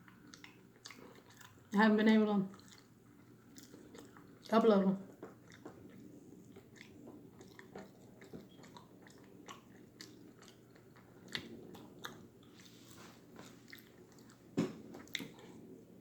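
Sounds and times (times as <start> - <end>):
crunchy chewing: 0.0 - 1.8, 2.5 - 15.6.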